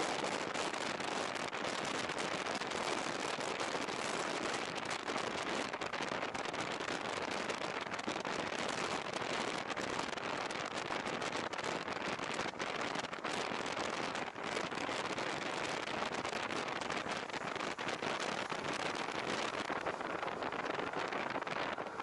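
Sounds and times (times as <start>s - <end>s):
wet microphone crackling: 0.0s - 22.0s
wind and rain on microphone: 0.0s - 22.0s.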